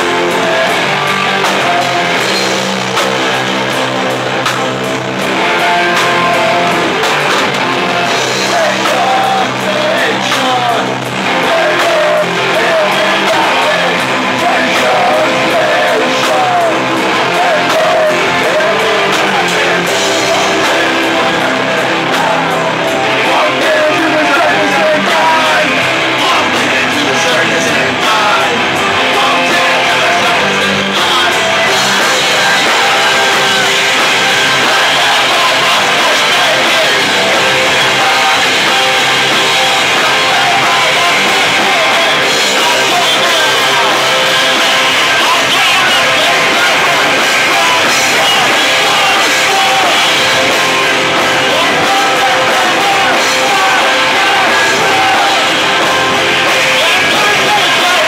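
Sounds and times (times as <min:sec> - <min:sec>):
bass guitar: 0:00.0 - 0:58.0
electric guitar: 0:00.0 - 0:58.0
person yelling singing: 0:00.0 - 0:58.0
rock band playing live: 0:00.0 - 0:58.0.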